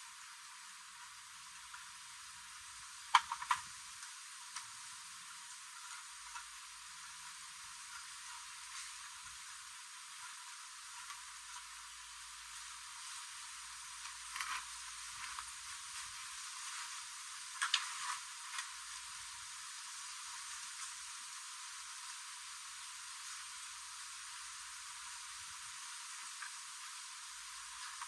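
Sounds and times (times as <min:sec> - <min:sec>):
faint hiss: 0:00.0 - 0:28.0.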